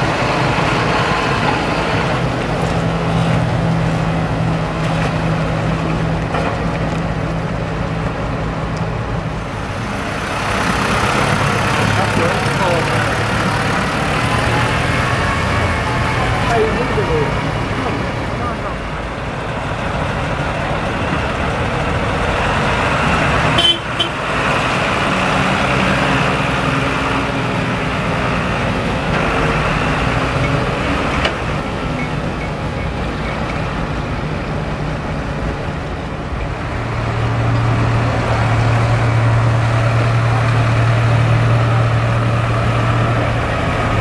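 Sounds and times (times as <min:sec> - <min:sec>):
diesel tractors driving past: 0:00.0 - 0:44.0.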